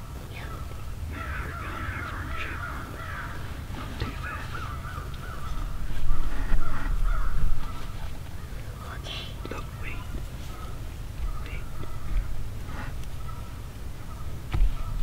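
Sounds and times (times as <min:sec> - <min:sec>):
turkeys calling: 0:00.0 - 0:15.0.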